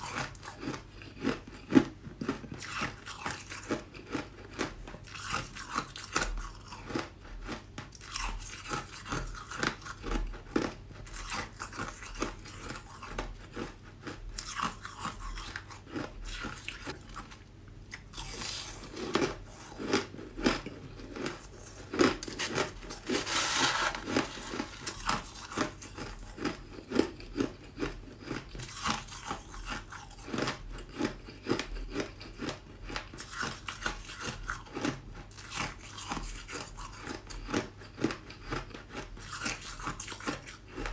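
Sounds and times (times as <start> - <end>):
person chewing ice: 0.0 - 40.9.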